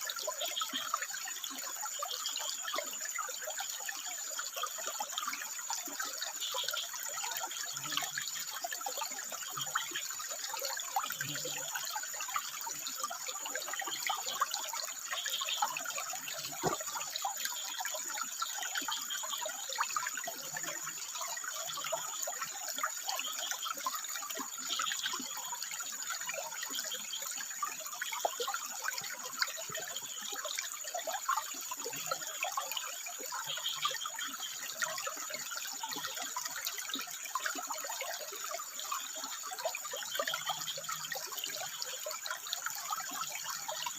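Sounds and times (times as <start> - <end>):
water trickling over rocks: 0.0 - 43.9.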